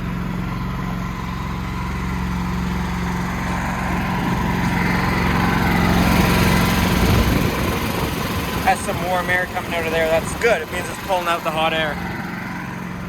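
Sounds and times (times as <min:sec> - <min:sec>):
generator engine puttering: 0:00.0 - 0:13.0.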